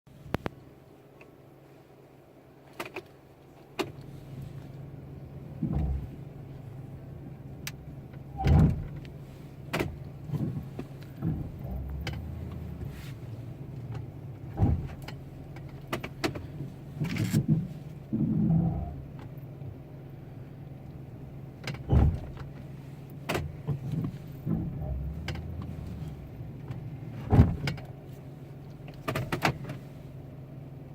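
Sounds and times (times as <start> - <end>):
brake noise: 2.7 - 19.8, 20.8 - 30.2
truck engine humming: 3.4 - 30.9.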